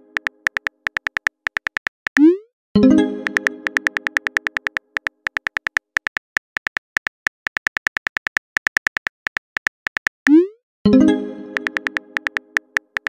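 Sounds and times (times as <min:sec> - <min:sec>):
phone keyboard typing clicks: 0:00.0 - 0:02.3, 0:03.2 - 0:10.4, 0:11.5 - 0:13.0.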